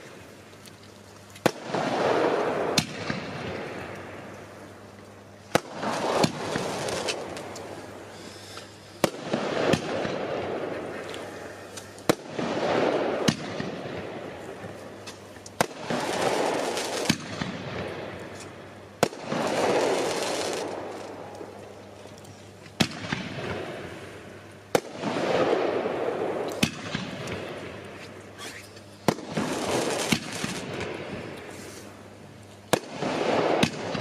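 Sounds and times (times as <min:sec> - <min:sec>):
firework shots bursting: 0:01.4 - 0:04.2, 0:05.5 - 0:21.6, 0:22.7 - 0:31.6, 0:32.7 - 0:34.0.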